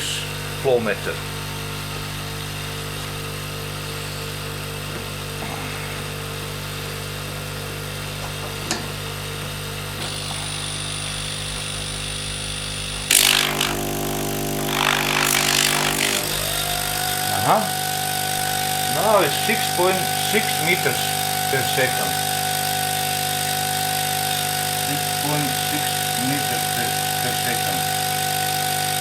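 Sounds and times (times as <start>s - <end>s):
air pump buzzing: 0.0s - 29.0s.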